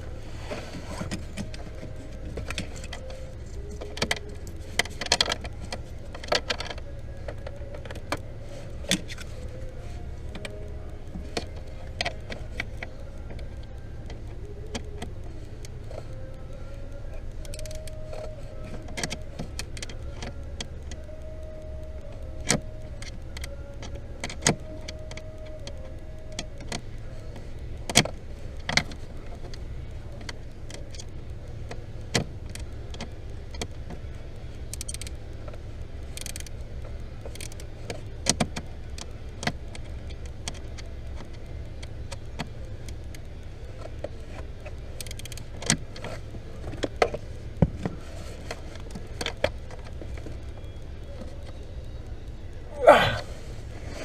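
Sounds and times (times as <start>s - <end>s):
low hum: 0.0s - 54.0s
sharp clicks and knocks: 0.0s - 54.0s.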